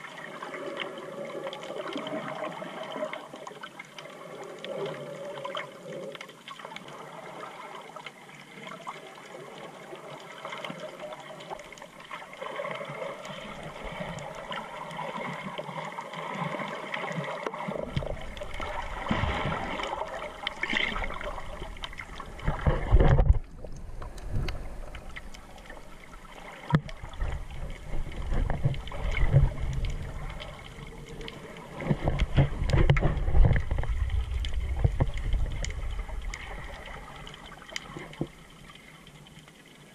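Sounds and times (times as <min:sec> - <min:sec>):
underwater gurgling and swirling: 0:00.0 - 0:39.9
water surging against camera: 0:00.0 - 0:39.9.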